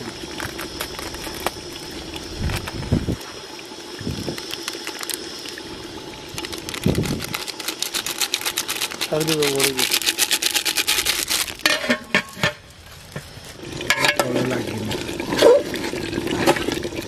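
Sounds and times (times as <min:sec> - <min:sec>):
curry simmering hiss: 0:00.0 - 0:17.0
faint crackles: 0:00.0 - 0:17.0.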